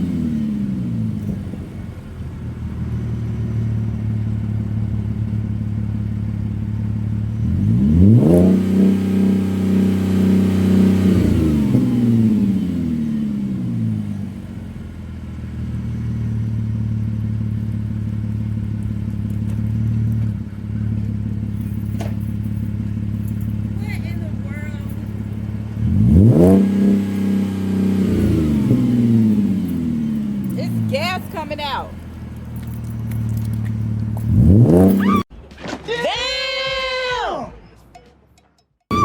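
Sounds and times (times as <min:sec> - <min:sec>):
car engine idling and revving: 0:00.0 - 0:35.3.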